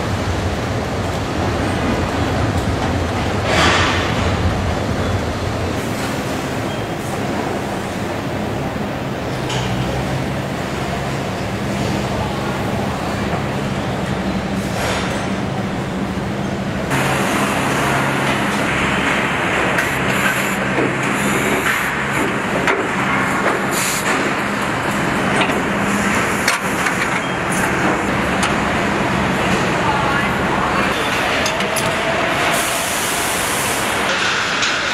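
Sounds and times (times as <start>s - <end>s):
factory din: 0.0s - 34.9s.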